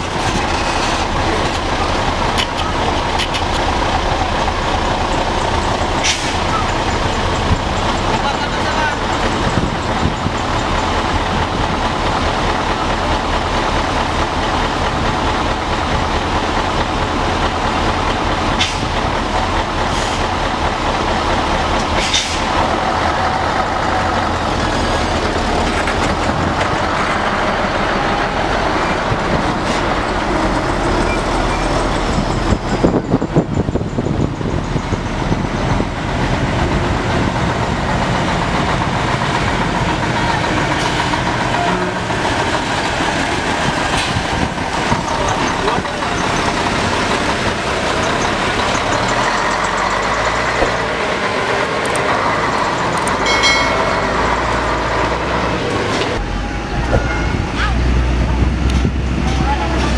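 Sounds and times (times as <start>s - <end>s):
diesel truck engines droning: 0.0s - 59.9s.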